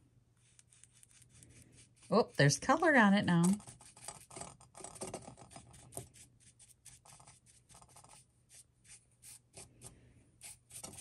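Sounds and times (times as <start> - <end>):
paintbrush scratchy strokes: 0.4 - 3.0, 3.6 - 11.0.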